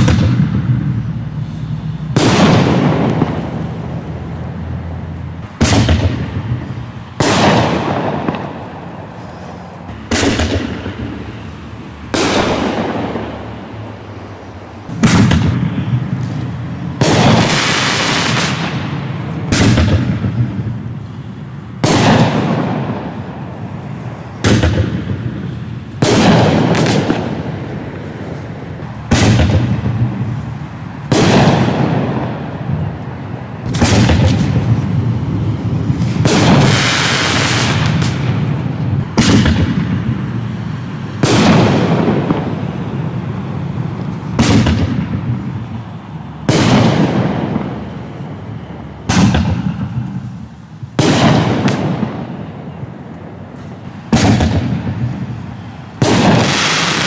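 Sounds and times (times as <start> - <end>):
firework bangs: 0.0 - 57.0
firework crackling: 0.0 - 57.0.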